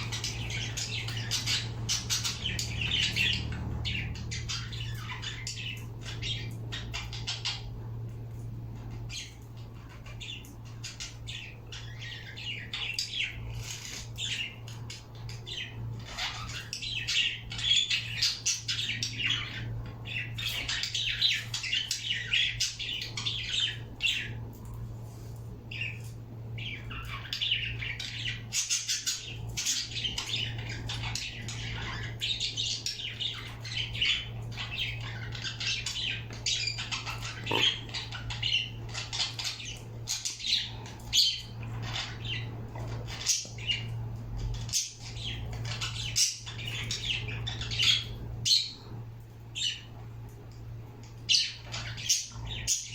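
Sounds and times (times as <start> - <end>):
birds chirping and squawking: 0.0 - 52.9.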